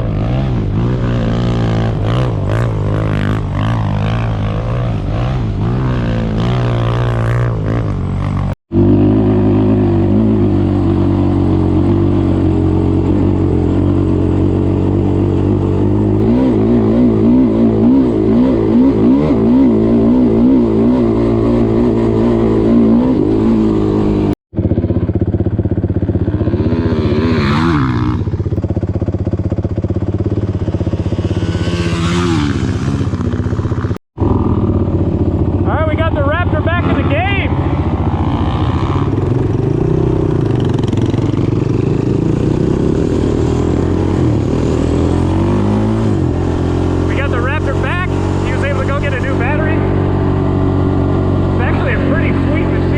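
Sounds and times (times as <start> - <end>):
off-road motorcycle engine revving: 0.0 - 52.9.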